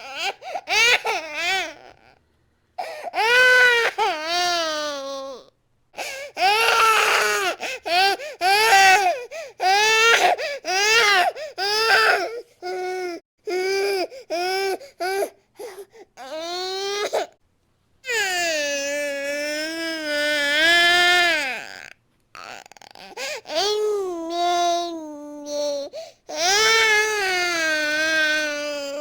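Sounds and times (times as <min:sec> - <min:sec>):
infant crying: 0:00.0 - 0:02.1, 0:02.8 - 0:17.4, 0:18.1 - 0:29.0.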